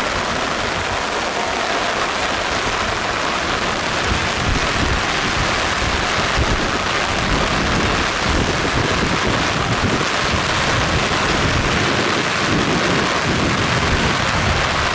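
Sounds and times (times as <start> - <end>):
wind and heavy rain roaring: 0.0 - 14.9
wind buffeting microphone: 0.0 - 14.9.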